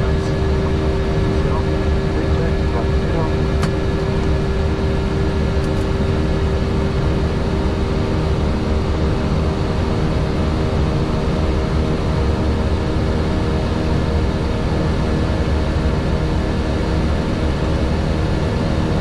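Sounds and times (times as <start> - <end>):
aircraft engine rumble: 0.0 - 19.0.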